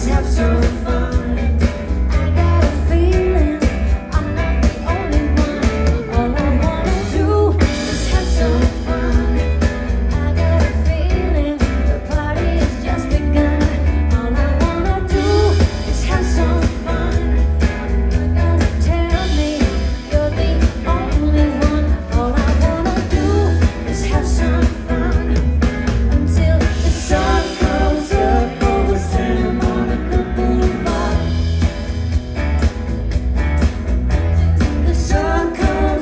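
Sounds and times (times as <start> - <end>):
lead vocalist singing: 0.0 - 32.0, 34.4 - 36.0
live pop band playing: 0.0 - 36.0.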